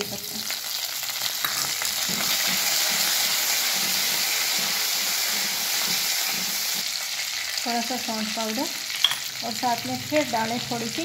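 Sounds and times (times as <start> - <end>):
spices sizzling in hot fat: 0.0 - 11.0.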